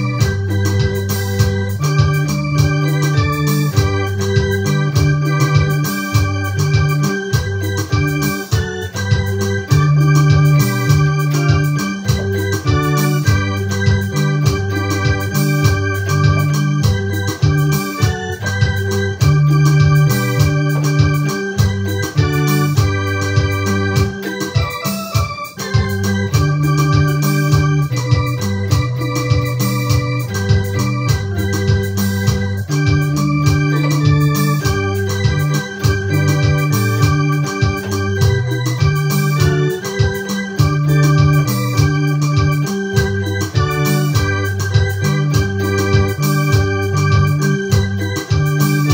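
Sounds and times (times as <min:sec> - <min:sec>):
keyboard playing organ-like chords: 0:00.0 - 0:48.9.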